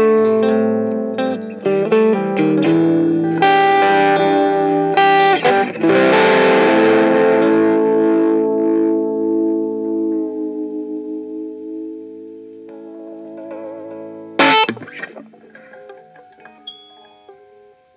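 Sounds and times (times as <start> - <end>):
electric guitar playing: 0.0 - 17.9.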